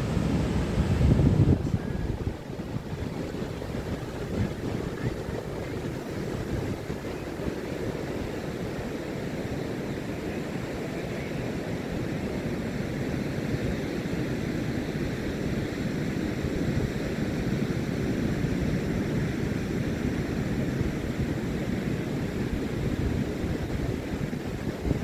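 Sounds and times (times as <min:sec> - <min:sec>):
waves breaking on beach: 0:00.0 - 0:25.0
wind on microphone: 0:00.0 - 0:25.0.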